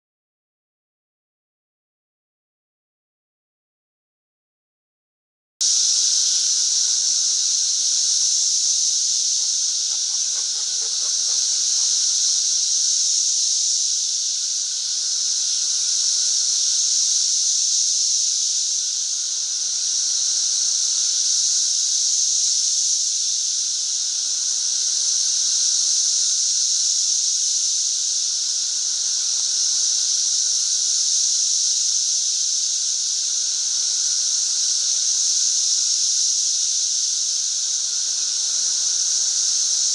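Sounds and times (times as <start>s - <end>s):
cicadas droning: 5.6s - 39.9s.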